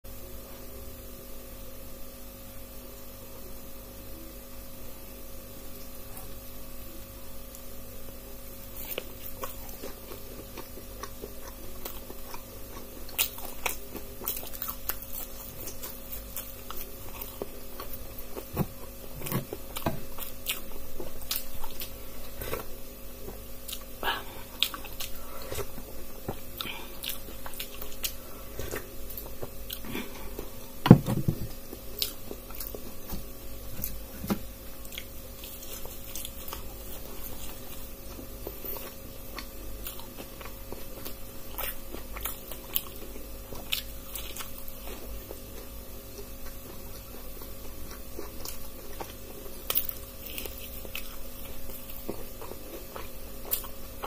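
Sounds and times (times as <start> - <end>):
electrical hum: 0.1 - 54.0
crunchy chewing: 7.4 - 54.0.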